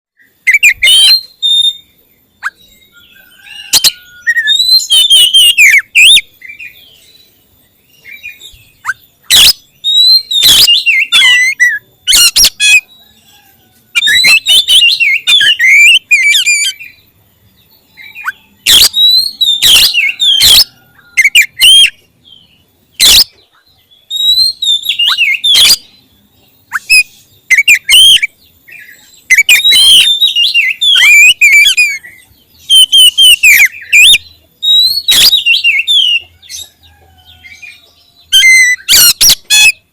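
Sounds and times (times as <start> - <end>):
bird warbling song: 0.2 - 39.9.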